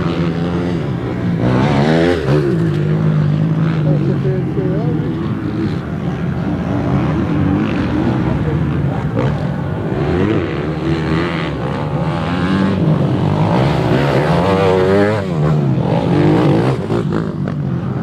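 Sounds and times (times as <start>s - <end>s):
motocross engines revving: 0.0s - 18.0s
motorbike passing close: 0.0s - 18.0s.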